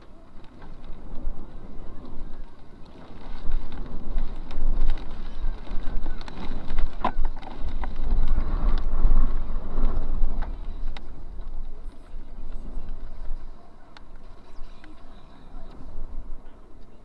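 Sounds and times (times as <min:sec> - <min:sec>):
gusting wind buffeting car: 0:00.0 - 0:17.0.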